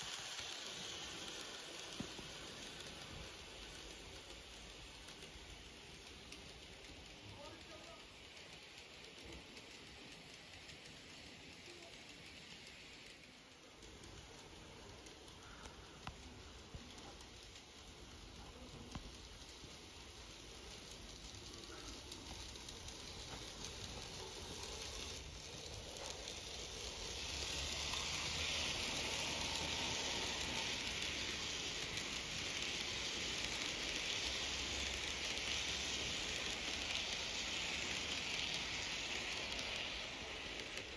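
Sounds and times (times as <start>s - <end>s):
model train rolling on track: 0.0s - 40.9s.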